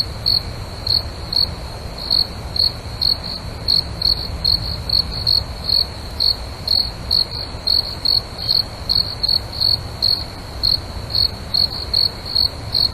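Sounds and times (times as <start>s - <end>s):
crickets chirping: 0.0s - 12.9s.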